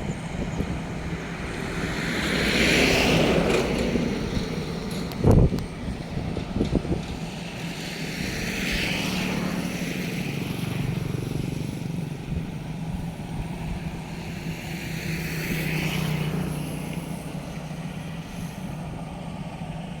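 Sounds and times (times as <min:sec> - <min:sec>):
thresher engine droning: 0:00.0 - 0:20.0
rushing hiss: 0:00.8 - 0:20.0.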